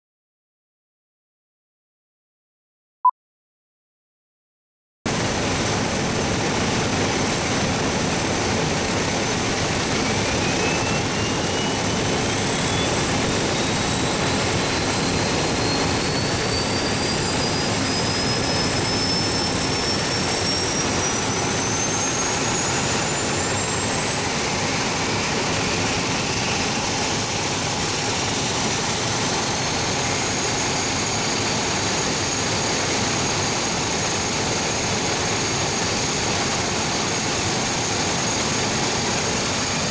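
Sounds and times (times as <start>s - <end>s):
turbine whine rising in pitch: 5.1s - 39.9s
turboprop engine rush: 5.1s - 39.9s.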